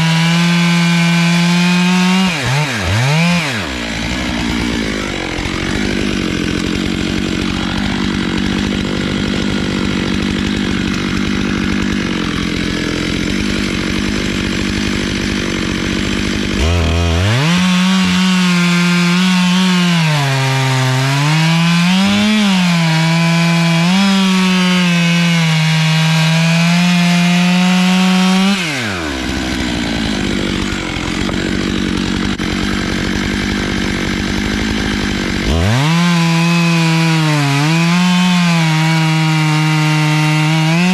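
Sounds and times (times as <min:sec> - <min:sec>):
chainsaw sawing through log: 0:00.0 - 0:40.9.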